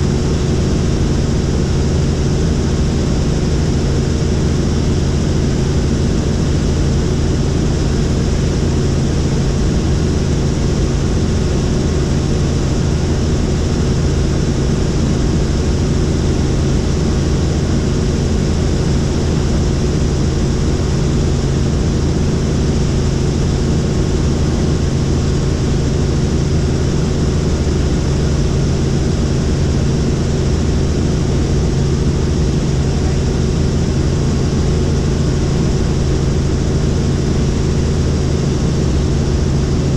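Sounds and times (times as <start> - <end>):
helicopter engine and rotor drone: 0.0 - 39.9
low hum: 0.0 - 39.9.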